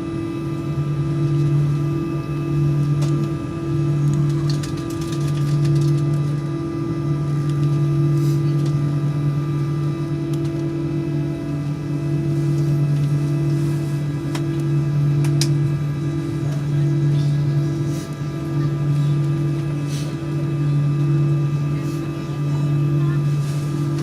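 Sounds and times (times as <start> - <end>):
airplane cabin drone: 0.0 - 24.0.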